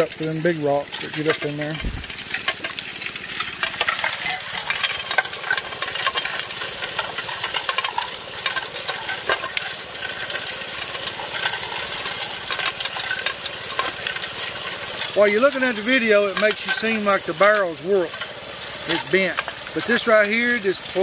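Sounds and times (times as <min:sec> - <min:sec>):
gravel clattering in turning barrel: 0:00.0 - 0:21.0
spray water hissing: 0:00.0 - 0:21.0.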